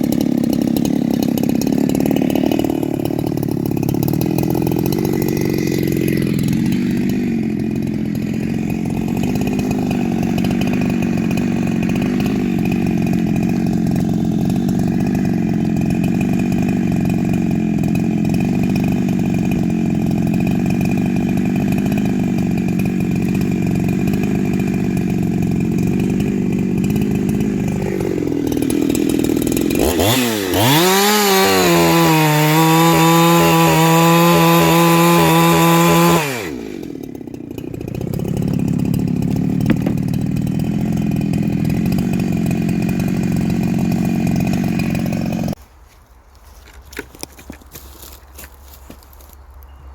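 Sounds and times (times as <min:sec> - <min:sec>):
chainsaw running at high revs: 0:00.0 - 0:45.6.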